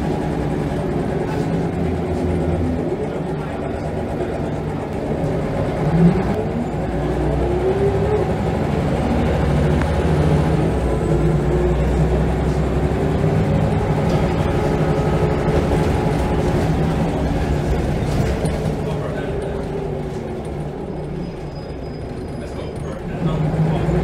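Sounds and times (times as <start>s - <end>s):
bus diesel engine accelerating: 0.0s - 24.0s.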